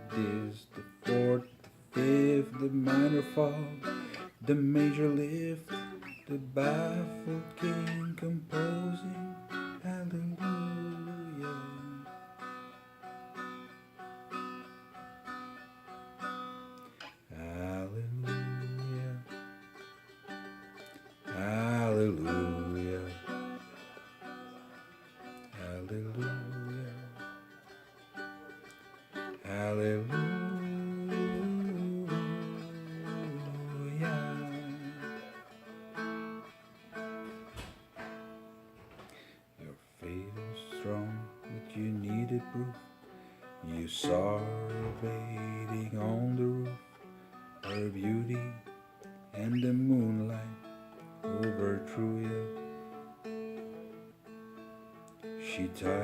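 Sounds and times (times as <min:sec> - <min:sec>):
strummed dulcimer chords: 0:00.0 - 0:39.3, 0:40.1 - 0:56.0.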